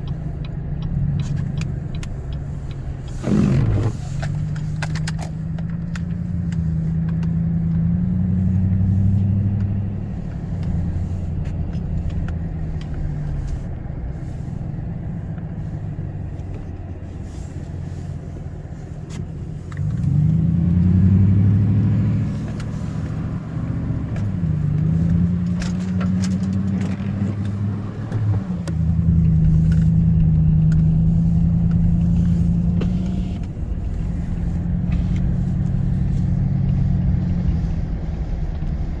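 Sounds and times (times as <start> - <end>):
engine revving: 0.0 - 16.0, 19.6 - 39.0.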